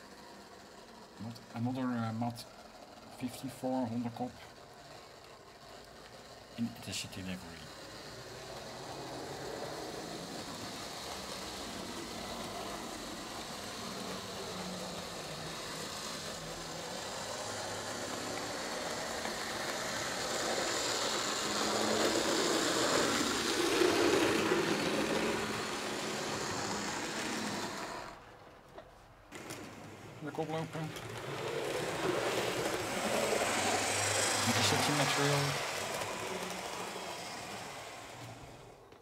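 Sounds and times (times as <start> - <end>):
model train motor whir: 0.0 - 39.0.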